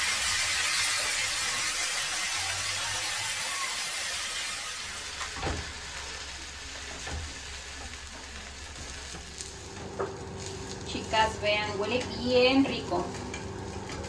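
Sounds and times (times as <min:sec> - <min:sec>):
omelette sizzling in a skillet: 0:00.0 - 0:14.0.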